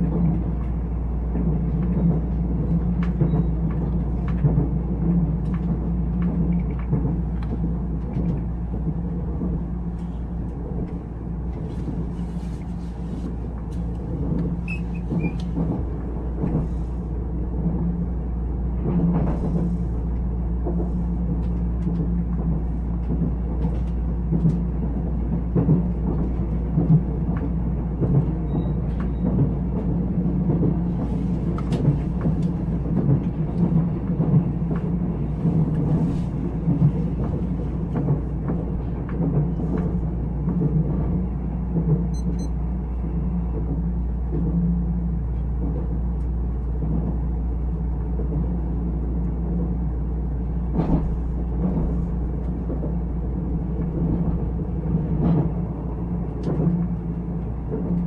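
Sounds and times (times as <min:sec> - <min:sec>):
rail clicks and knocks: 0:00.0 - 0:18.1, 0:18.7 - 0:58.0
train wheels rumbling on track: 0:00.0 - 0:58.0.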